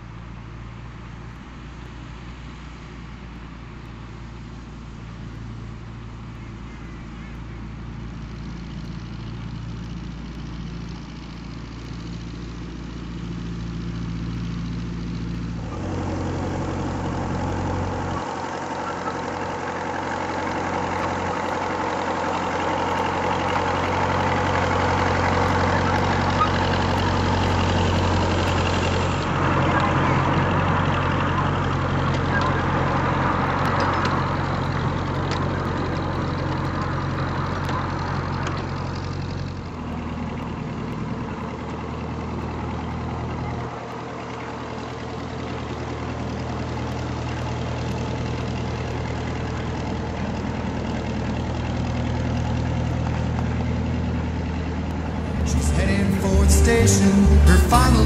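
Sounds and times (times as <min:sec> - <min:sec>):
miniature locomotive engine running: 0:07.0 - 0:55.3.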